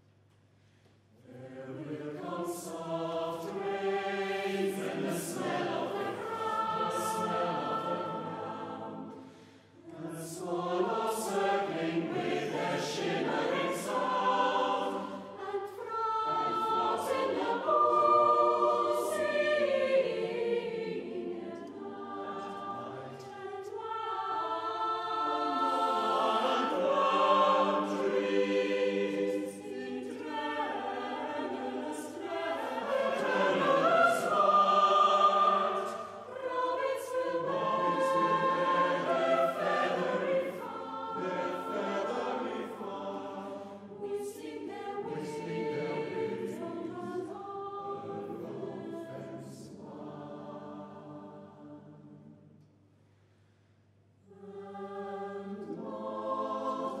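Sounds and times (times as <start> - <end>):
choir singing unaccompanied: 1.2 - 52.5, 54.3 - 57.0.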